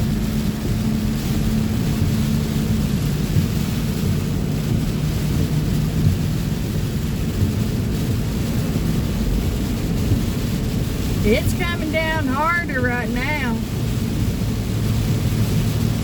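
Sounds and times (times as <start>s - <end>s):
engine and road rumble: 0.0s - 16.0s
rain on truck: 0.0s - 16.0s.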